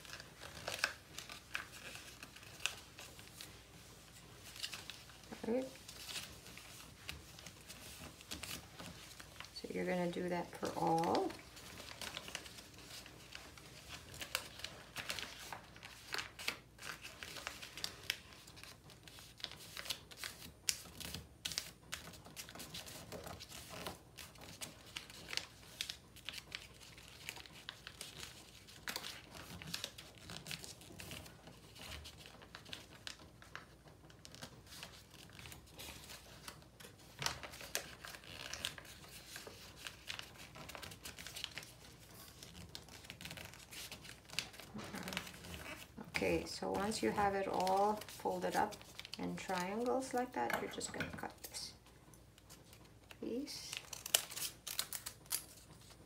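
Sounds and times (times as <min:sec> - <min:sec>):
paper crinkling and rustling: 0:00.0 - 0:56.0.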